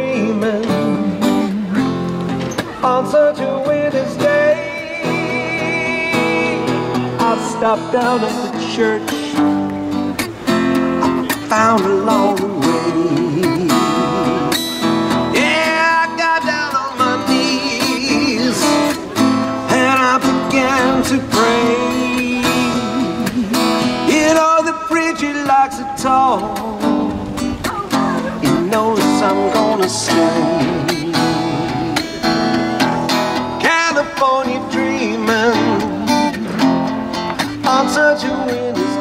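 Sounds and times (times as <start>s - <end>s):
strummed acoustic guitar: 0.0s - 39.0s.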